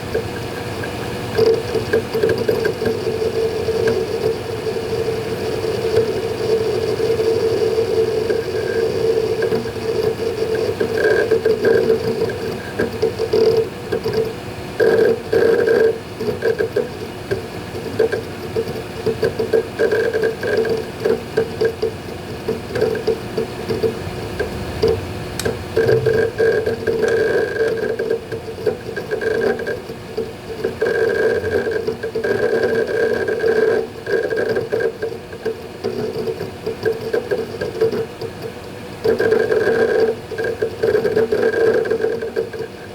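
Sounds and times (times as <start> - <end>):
steady hum: 0.0 - 36.3
hard drive head seek chatter: 0.0 - 42.9.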